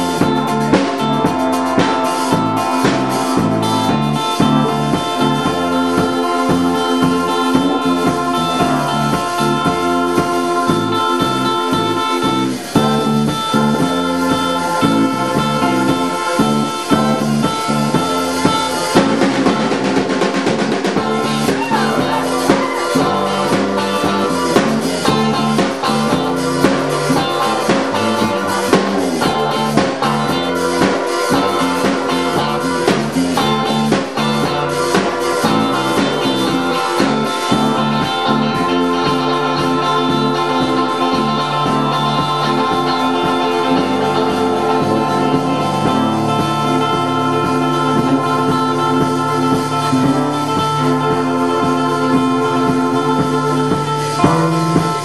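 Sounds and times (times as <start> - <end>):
drums and cymbals: 0.0 - 55.0
electric guitar: 0.0 - 55.0
keyboard: 0.0 - 55.0.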